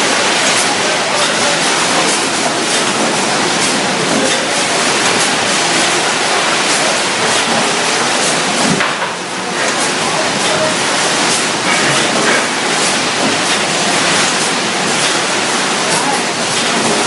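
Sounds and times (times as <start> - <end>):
conveyors running: 0.0 - 17.0
robotic palletizer working: 0.0 - 17.0.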